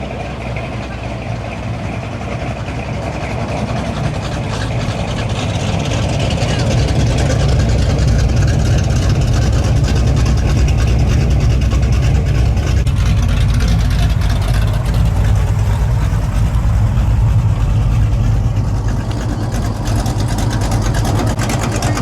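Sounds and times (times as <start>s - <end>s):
car engine with loud exhaust: 0.0s - 22.0s.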